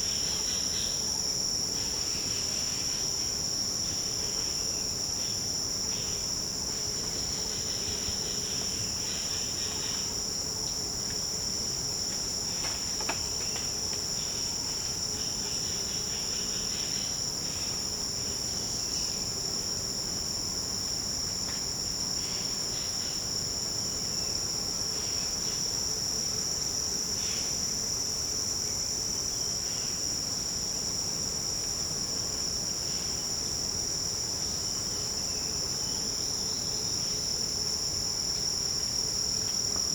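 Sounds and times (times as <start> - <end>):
faint insect calls: 0.0 - 39.9
insects buzzing: 0.0 - 39.9.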